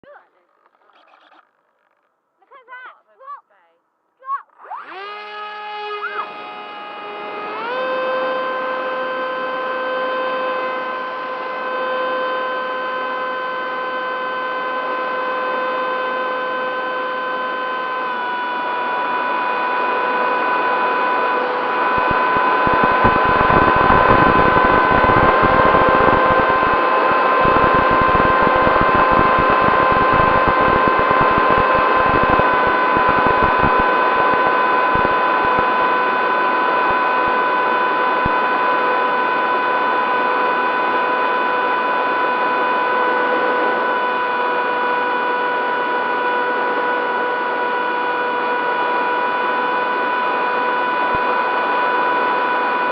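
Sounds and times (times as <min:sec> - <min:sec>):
electric motor and propeller whine: 0:00.4 - 0:02.1, 0:04.5 - 0:52.9.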